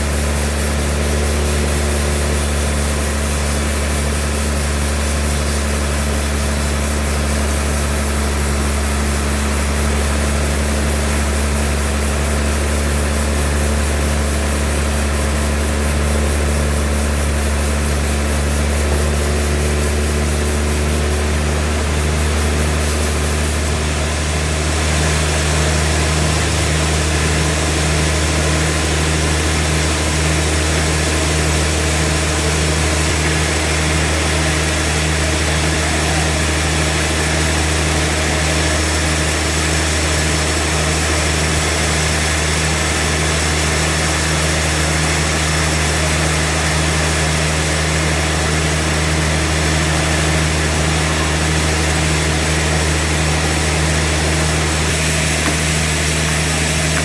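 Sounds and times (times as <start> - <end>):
sawmill machinery engine drone: 0.0 - 57.0.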